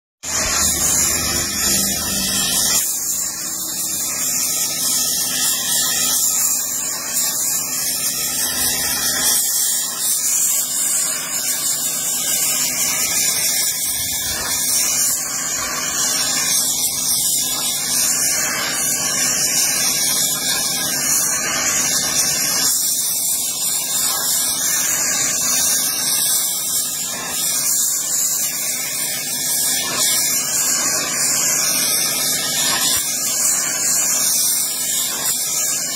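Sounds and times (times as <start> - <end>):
gas torch flame hissing: 0.2 - 35.9.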